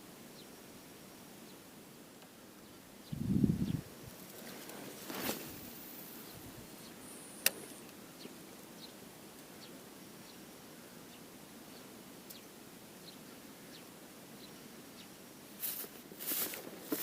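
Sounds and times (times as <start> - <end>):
faint songbirds chirping: 0.0 - 17.0.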